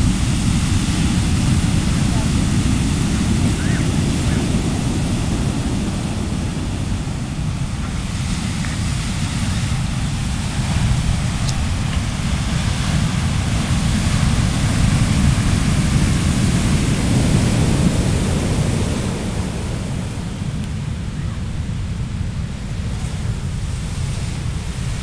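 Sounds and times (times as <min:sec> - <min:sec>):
surf breaking on beach: 0:00.0 - 0:25.0
wind rumbling on microphone: 0:00.0 - 0:25.0.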